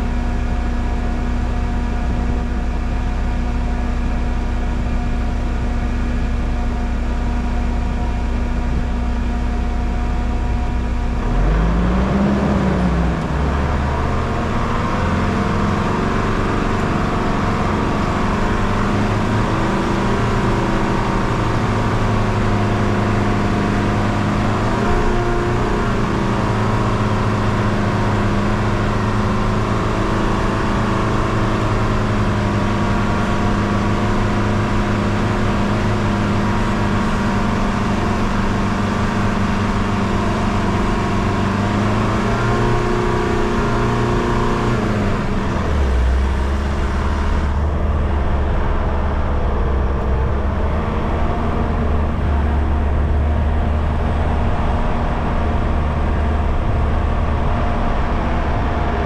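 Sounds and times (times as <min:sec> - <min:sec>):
vehicle engine running uphill: 0:00.0 - 0:59.0.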